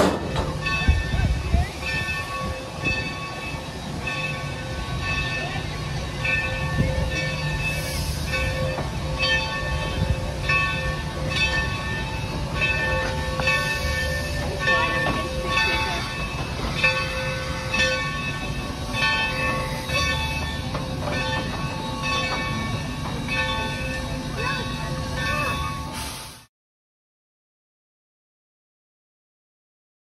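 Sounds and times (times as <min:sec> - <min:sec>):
locomotive bell ringing: 0:00.0 - 0:26.5.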